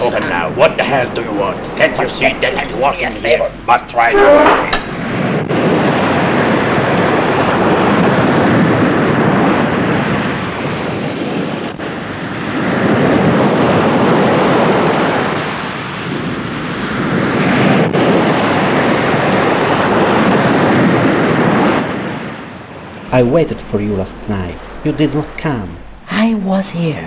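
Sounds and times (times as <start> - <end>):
sea surf waves: 0.0 - 26.4.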